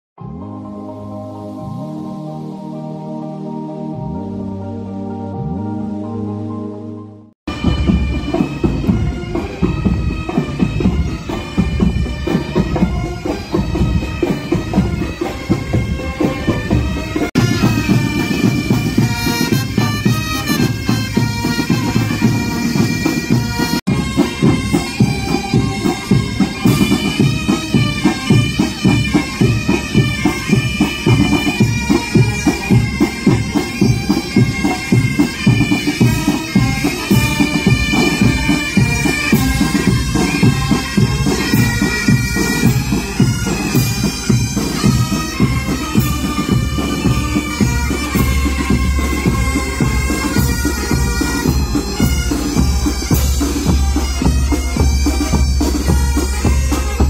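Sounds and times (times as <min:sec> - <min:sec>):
marching band wind instruments: 0:00.2 - 0:57.0
steady drumbeat: 0:07.5 - 0:57.0.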